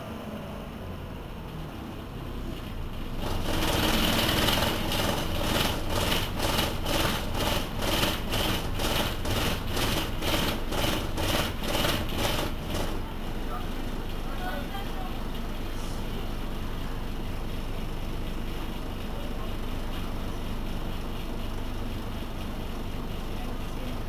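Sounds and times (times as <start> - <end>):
bus diesel engine running: 0.0 - 24.0.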